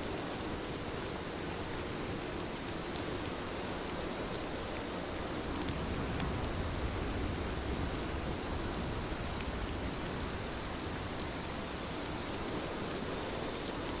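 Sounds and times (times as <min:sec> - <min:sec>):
heavy rain hiss: 0:00.0 - 0:14.0.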